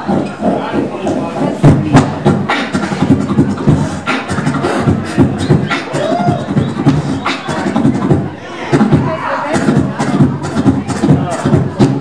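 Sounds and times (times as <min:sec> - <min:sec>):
person beatboxing into microphone: 0:00.0 - 0:12.0.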